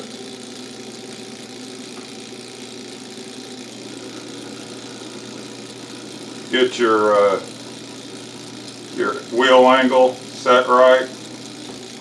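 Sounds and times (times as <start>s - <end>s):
grinder motor humming: 0.0s - 12.0s.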